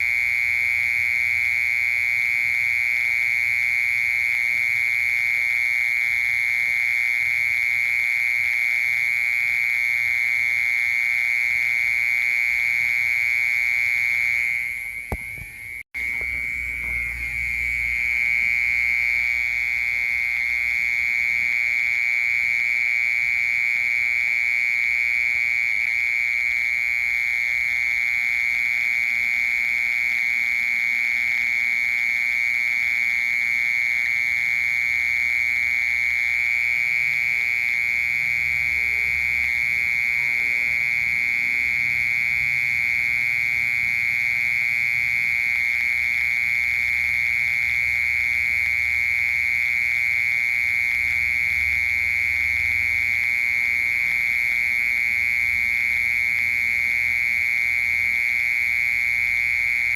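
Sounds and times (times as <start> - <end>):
mole cricket trilling: 0.0 - 59.9.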